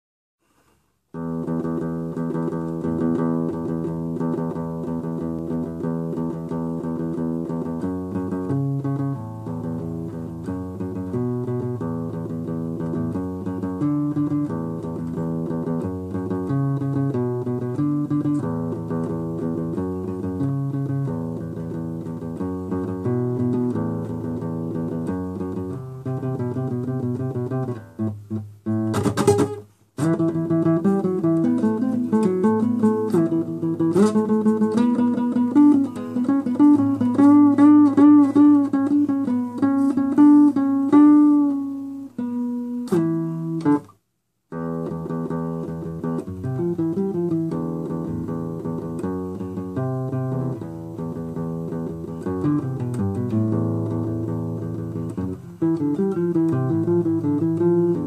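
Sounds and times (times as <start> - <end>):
classical guitar plucked chords: 0.4 - 58.0.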